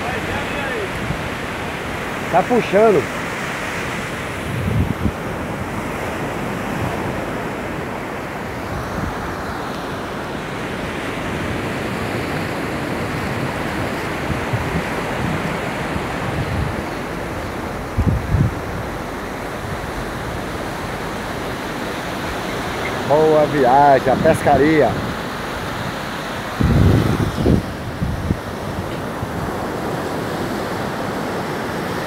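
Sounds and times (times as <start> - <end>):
ocean surf breaking on beach: 0.0 - 32.0
wind buffeting microphone: 0.0 - 32.0.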